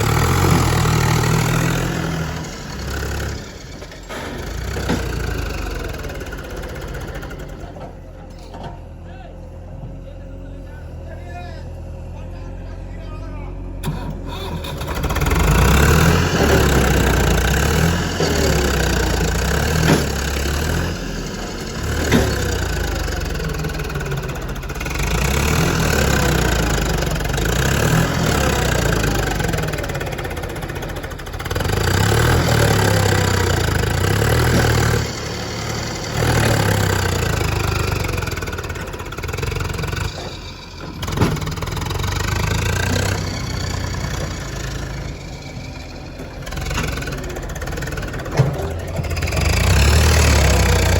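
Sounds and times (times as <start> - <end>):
diesel engine revving: 0.0 - 8.3, 9.4 - 50.9.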